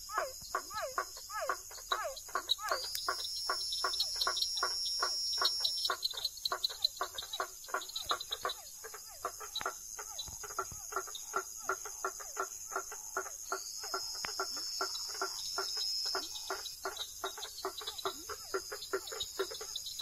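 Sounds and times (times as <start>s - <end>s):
frogs calling: 0.0s - 20.0s
high insect tone: 0.0s - 20.0s
insects trilling: 0.0s - 20.0s.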